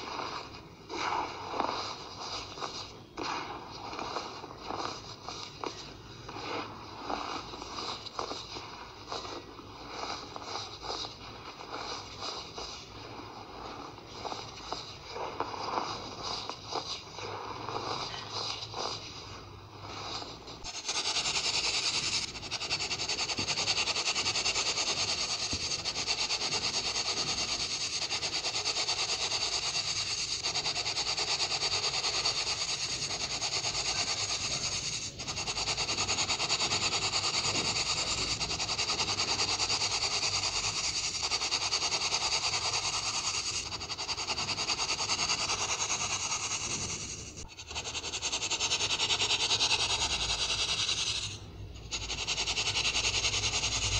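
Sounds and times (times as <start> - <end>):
hands crunching powder: 0.0 - 53.9
powder hissing through mesh sieve: 0.0 - 53.9.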